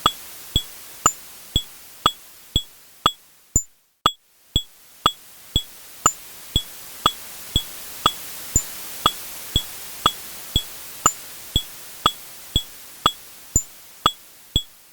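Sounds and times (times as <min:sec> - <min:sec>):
steady hiss: 0:00.0 - 0:03.6, 0:04.2 - 0:14.9
washing machine clicking ticks: 0:00.0 - 0:03.7, 0:04.6 - 0:14.8.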